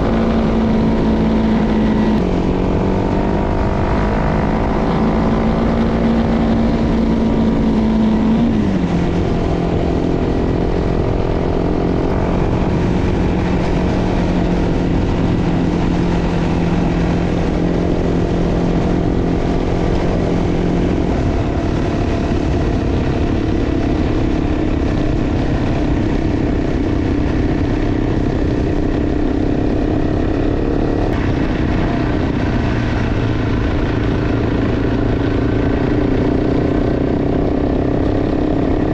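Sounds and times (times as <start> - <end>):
motorcycle engine running: 0.0 - 38.9
steady rush of noise: 0.0 - 38.9.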